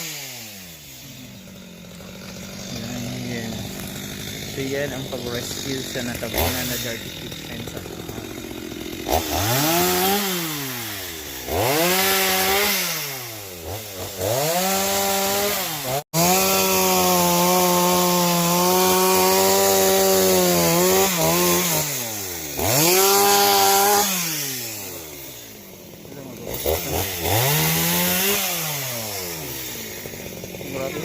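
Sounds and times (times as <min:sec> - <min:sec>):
chainsaw revving: 0:00.0 - 0:31.0.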